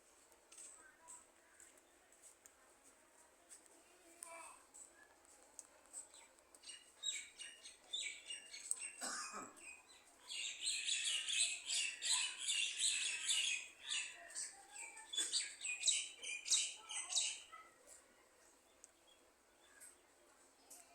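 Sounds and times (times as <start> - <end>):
small birds chirping: 3.5 - 20.9.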